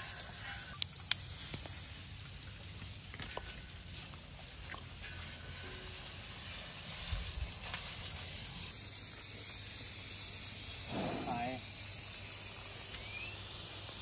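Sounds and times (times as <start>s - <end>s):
water spraying from hose: 0.0s - 14.0s.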